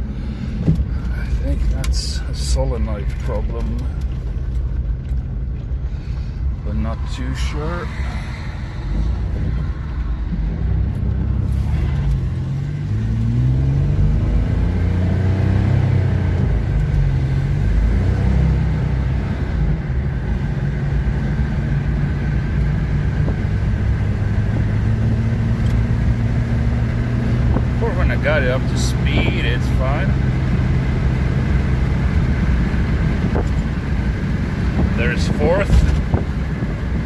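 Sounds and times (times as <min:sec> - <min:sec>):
car engine accelerating: 0:00.0 - 0:37.0
road rumble: 0:00.0 - 0:37.0.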